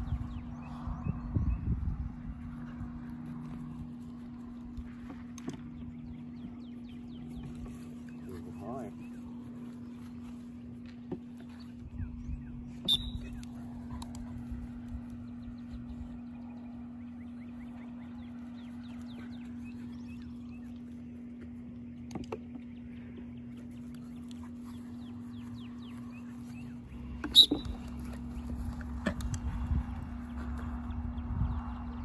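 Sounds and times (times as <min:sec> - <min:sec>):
birds chirping: 0:00.0 - 0:32.0
low hum: 0:00.0 - 0:32.0.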